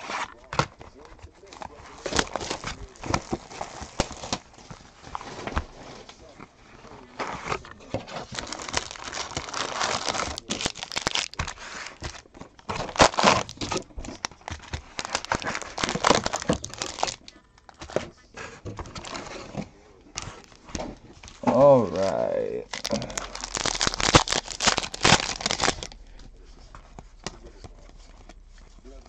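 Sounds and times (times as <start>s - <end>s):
plastic wrapping crinkling and tearing: 0.0s - 18.1s, 18.8s - 19.5s, 20.1s - 29.0s.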